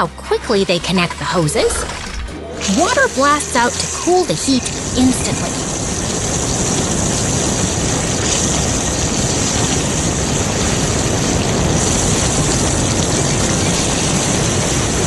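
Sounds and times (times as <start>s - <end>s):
fire hoses spraying water: 0.5s - 15.0s.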